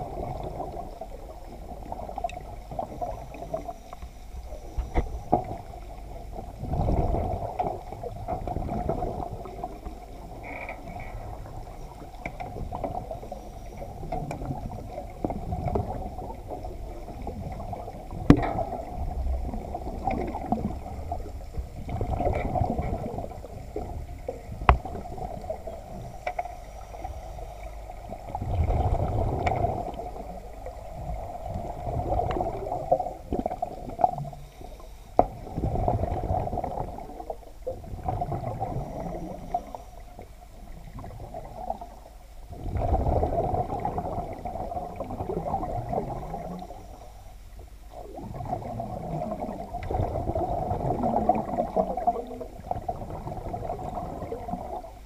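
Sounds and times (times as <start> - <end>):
muffled underwater sloshing and bubbling: 0.0 - 55.0.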